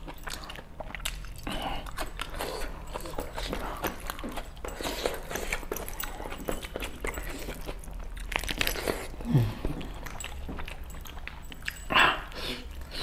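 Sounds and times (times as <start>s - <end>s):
person chewing meat: 0.0s - 13.0s.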